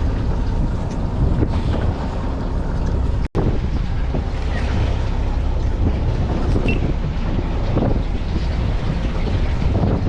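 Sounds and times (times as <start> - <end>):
sea: 0.0 - 10.0
wind buffeting microphone: 0.0 - 10.0.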